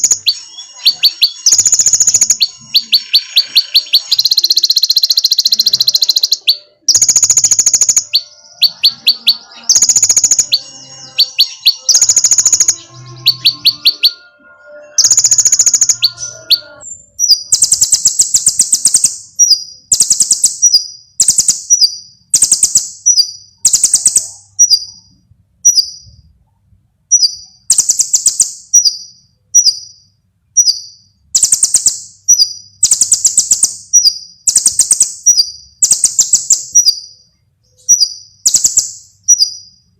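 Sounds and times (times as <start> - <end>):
bird chirping with trills: 0.0 - 26.3, 27.1 - 39.9.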